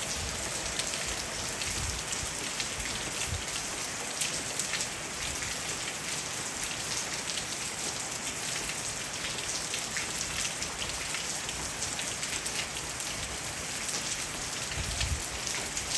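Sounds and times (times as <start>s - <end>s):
raindrops tapping on roof and leaves: 0.0s - 15.9s
steady rain falling: 0.0s - 15.9s.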